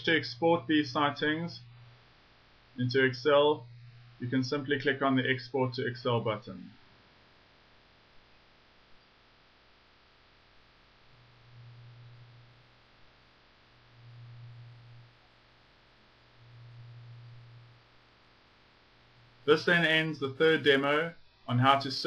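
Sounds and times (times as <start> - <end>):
faint recording hiss: 0.0 - 22.0
low electrical hum: 0.0 - 22.0.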